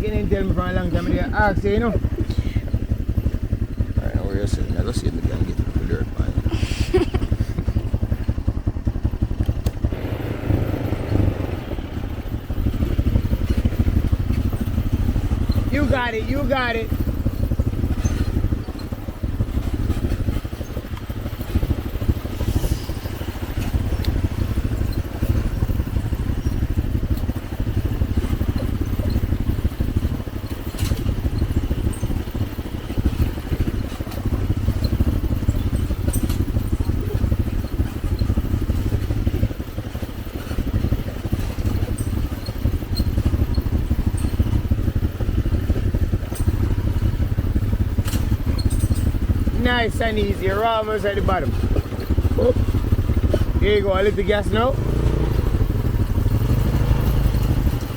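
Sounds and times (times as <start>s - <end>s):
quad engine rumbling: 0.0s - 57.9s.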